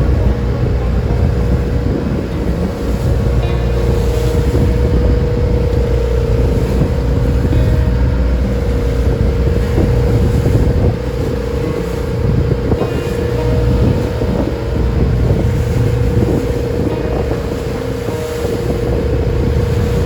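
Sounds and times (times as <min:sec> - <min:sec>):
boat engine rumbling: 0:00.0 - 0:20.0
water washing: 0:00.0 - 0:20.0
wind: 0:00.0 - 0:20.0.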